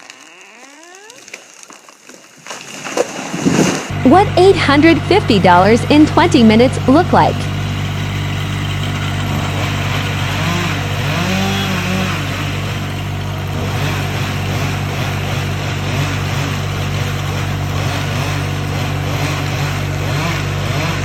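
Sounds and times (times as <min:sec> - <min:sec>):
chainsaw engine revving: 0:03.9 - 0:21.0.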